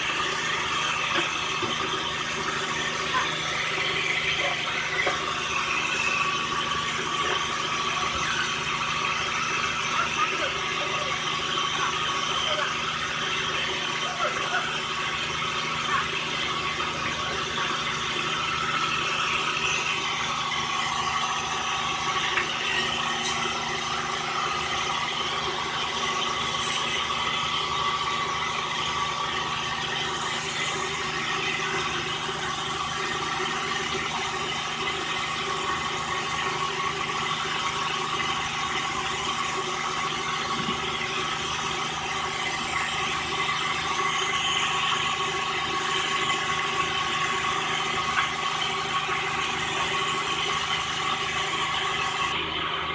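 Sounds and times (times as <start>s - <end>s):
sawmill machinery whining: 0.0s - 52.9s.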